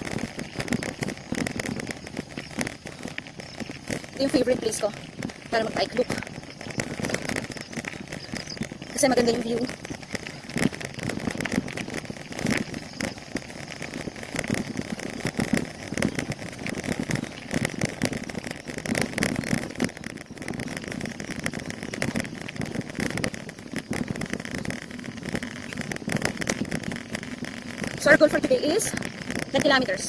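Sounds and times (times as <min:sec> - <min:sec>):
bicycle rattling on uneven road: 0:00.0 - 0:30.0.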